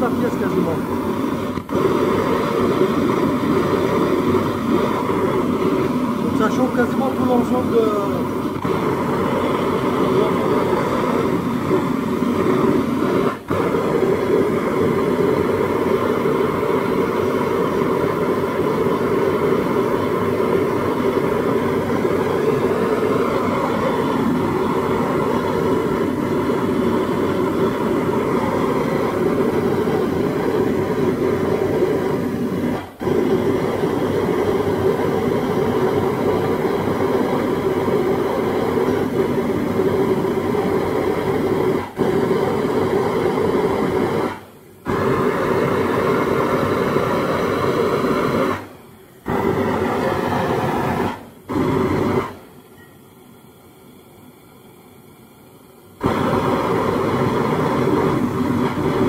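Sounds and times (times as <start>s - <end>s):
torch flame rushing: 0.0s - 52.6s, 55.7s - 59.0s.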